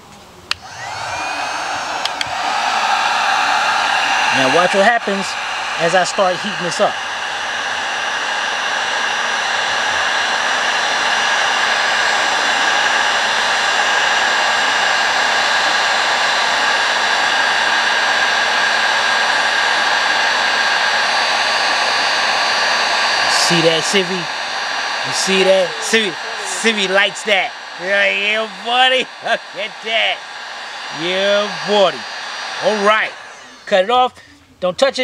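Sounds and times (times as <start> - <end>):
faint steady whine: 0.0 - 34.8
heat gun blowing air: 0.5 - 34.2.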